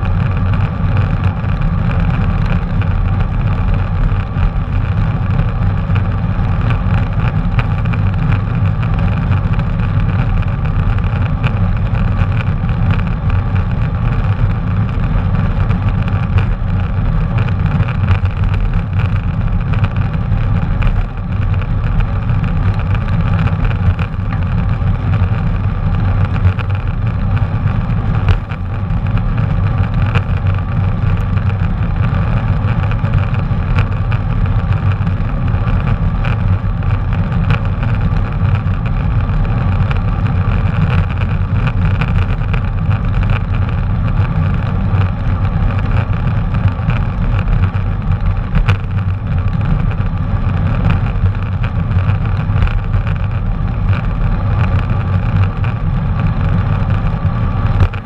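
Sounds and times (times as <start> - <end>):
bicycle tyre and road noise: 0.0 - 58.0
wind rumble on microphone: 0.0 - 58.0.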